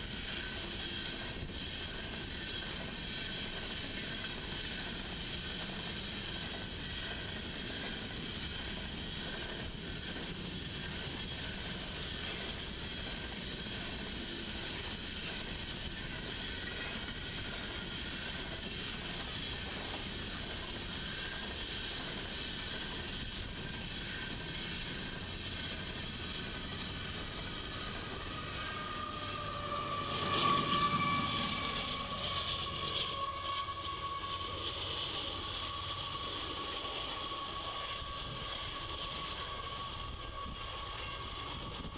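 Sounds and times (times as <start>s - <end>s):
train clattering: 0.0s - 41.9s
train drone with high tones: 0.0s - 41.9s.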